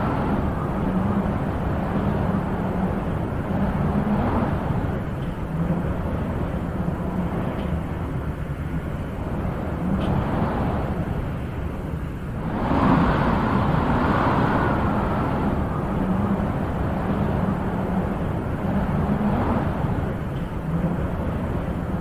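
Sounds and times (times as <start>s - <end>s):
wind gusts: 0.0s - 22.0s.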